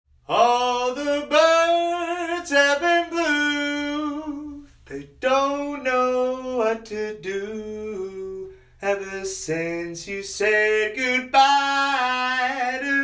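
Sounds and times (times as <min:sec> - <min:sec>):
person singing slow melody: 0:00.2 - 0:13.0.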